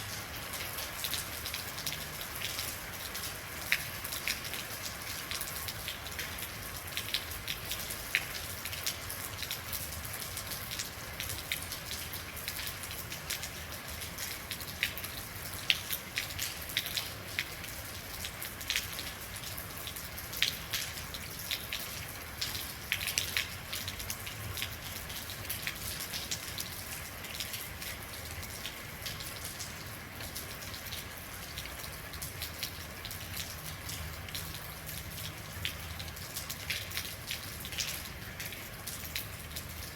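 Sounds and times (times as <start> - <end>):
rain hiss: 0.0 - 39.9
raindrops ticking close by: 0.0 - 39.9.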